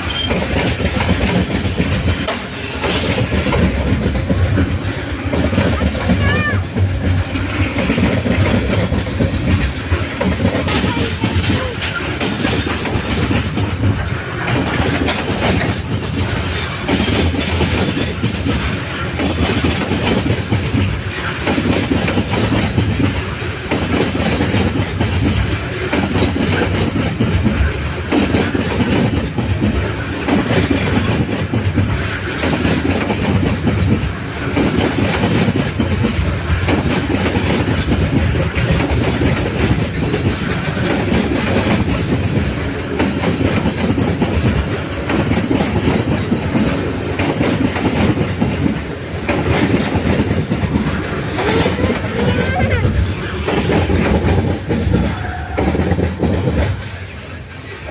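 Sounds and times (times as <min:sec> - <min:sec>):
train wheels clattering on rails: 0:00.0 - 0:57.9.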